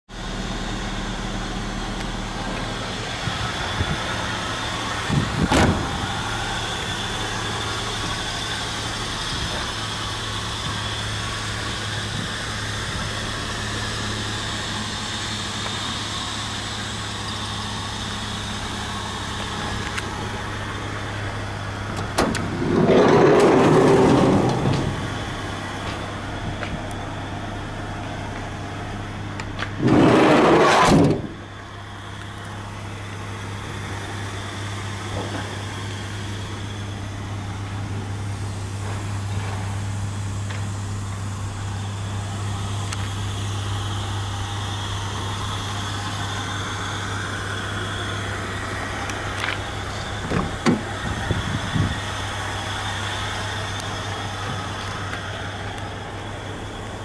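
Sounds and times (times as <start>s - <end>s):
van engine idling: 0.1s - 57.0s.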